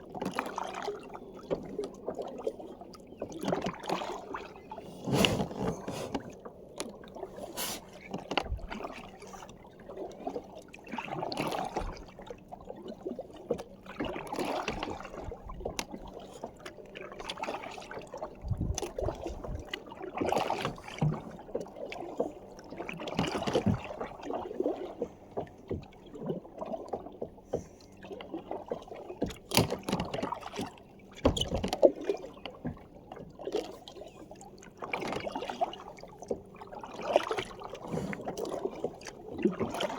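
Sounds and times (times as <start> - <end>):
water splashing around a kayak: 0.0 - 39.9.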